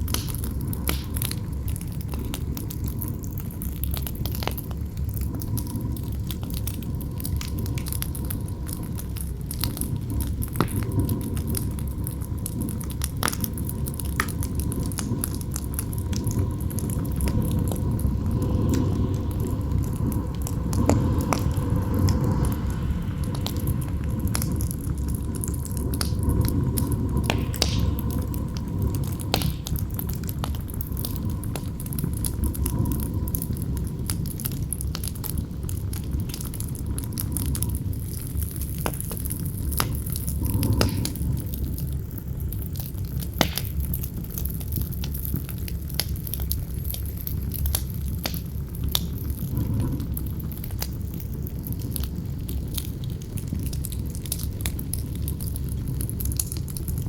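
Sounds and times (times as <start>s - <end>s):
campfire crackling and popping: 0.0s - 57.0s
wind rumbling and howling: 0.0s - 57.0s.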